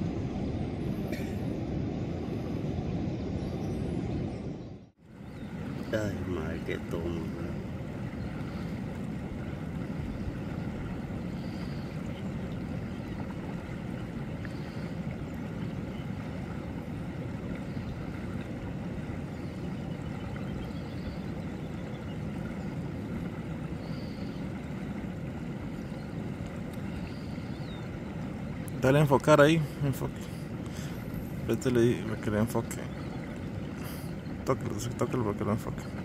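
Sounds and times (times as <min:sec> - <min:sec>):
ocean surf breaking: 0:05.2 - 0:36.0.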